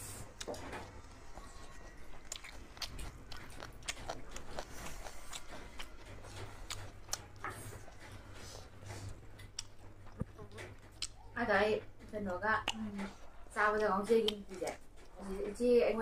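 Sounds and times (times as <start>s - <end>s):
crunchy chewing: 0.0s - 15.3s.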